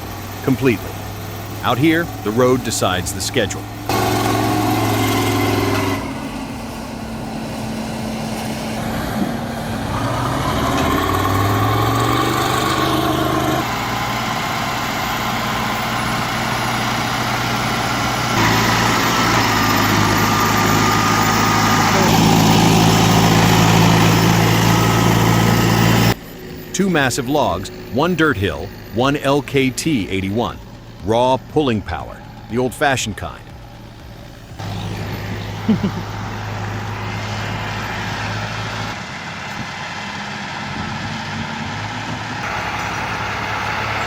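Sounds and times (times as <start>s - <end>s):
engine revving: 0.0s - 44.0s
heavy diesel engines running: 0.0s - 44.0s.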